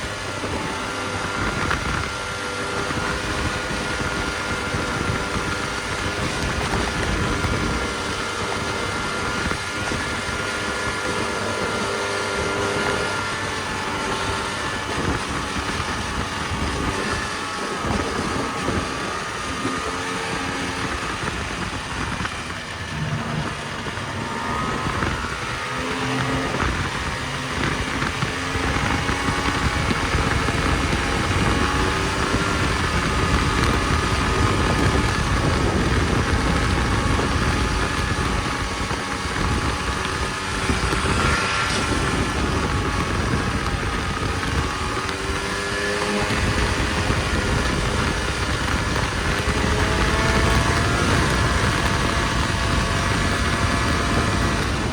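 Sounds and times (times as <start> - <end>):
snowmobile engine running: 0.0 - 54.9
steady rushing noise: 0.0 - 54.9.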